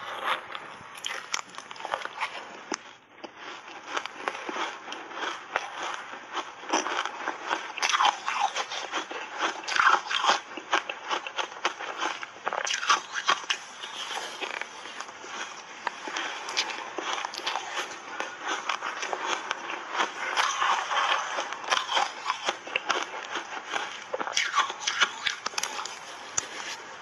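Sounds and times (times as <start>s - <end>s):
crunchy chewing of shaved ice: 0.0s - 27.0s.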